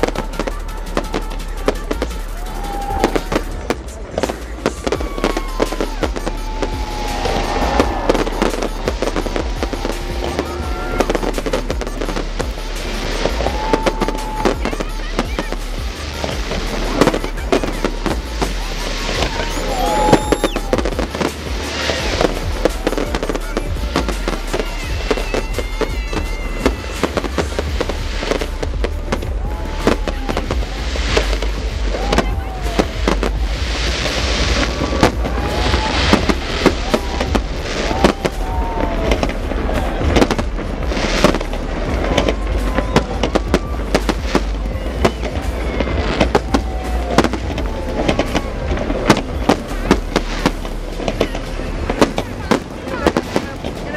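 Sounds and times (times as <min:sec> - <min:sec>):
fireworks bangs and crackling: 0:00.0 - 0:53.9
fireworks falling whistles: 0:00.0 - 0:53.9.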